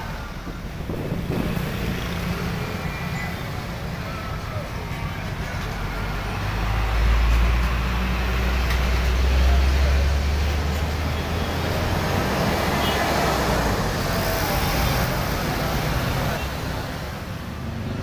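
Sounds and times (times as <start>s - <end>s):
diesel engine rumble: 0.0s - 18.0s
road and tyre noise: 0.0s - 18.0s.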